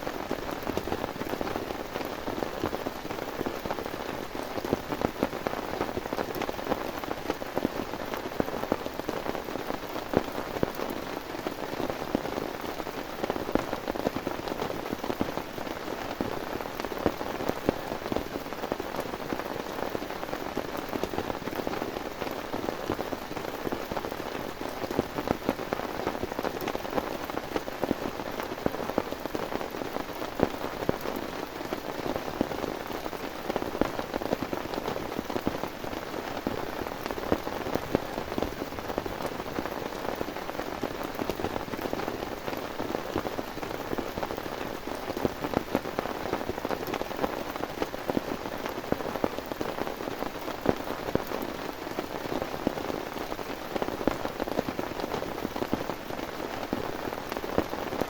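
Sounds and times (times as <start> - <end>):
raindrops striking close by: 0.0 - 58.0.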